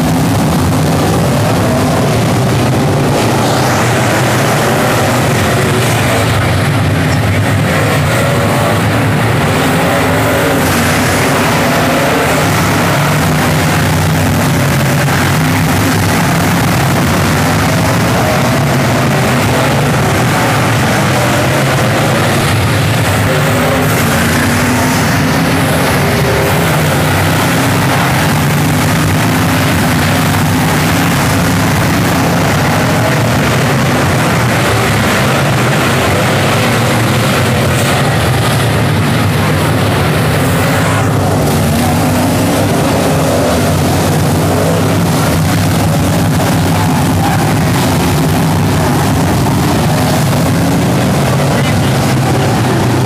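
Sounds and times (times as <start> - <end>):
race car engines revving: 0.0 - 53.0.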